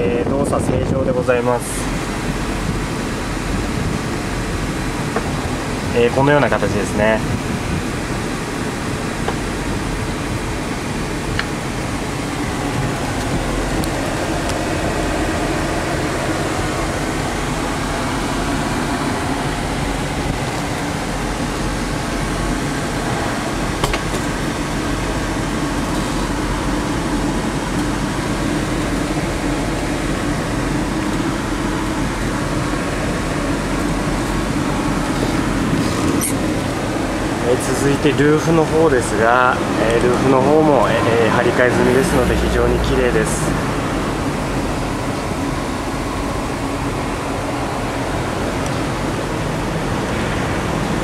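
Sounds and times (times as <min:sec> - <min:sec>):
air-conditioning blower: 0:00.0 - 0:51.0
car engine idling: 0:00.0 - 0:51.0.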